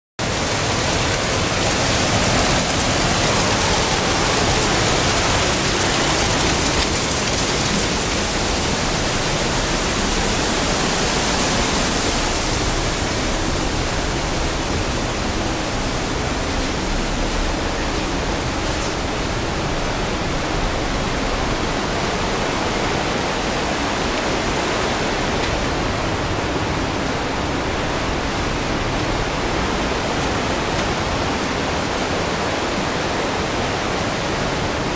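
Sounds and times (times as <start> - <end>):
water cascading down rock: 0.2 - 34.9.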